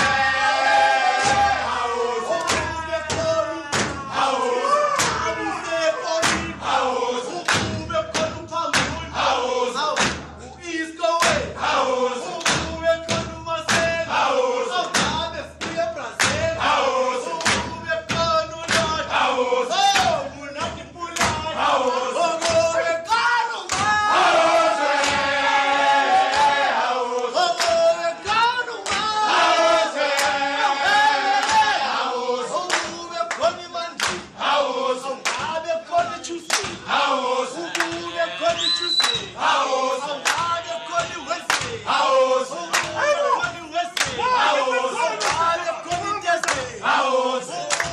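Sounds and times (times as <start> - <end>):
men singing in chorus: 0.0 - 10.0, 10.9 - 47.9
sharp rhythmic hits: 0.0 - 10.5, 11.1 - 31.9, 32.7 - 34.4, 35.0 - 44.4, 47.7 - 47.9.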